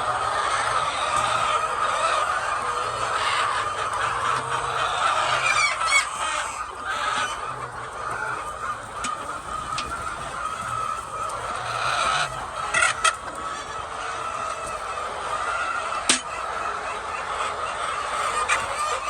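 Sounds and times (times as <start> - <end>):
hens clucking: 0.0 - 19.0
sharp hen calls: 0.0 - 19.0.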